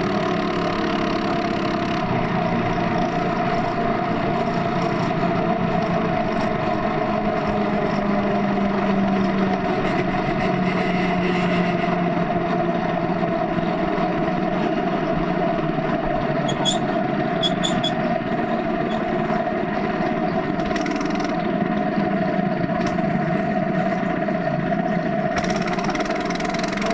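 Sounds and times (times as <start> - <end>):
minibike engine running: 0.0 - 26.9.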